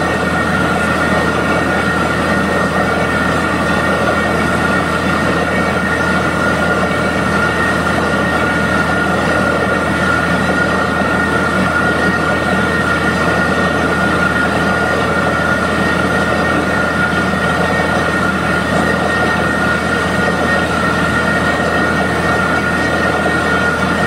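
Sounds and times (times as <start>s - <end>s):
drilling rig din: 0.0s - 24.0s
steady high whine: 0.0s - 24.0s.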